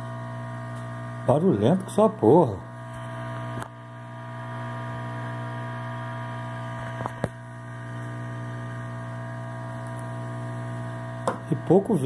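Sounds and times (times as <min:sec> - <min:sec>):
air pump humming: 0:00.0 - 0:12.0.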